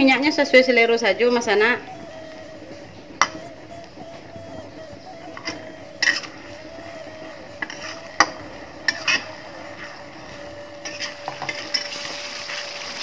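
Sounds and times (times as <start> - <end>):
chilli paste frying: 0.1 - 13.0.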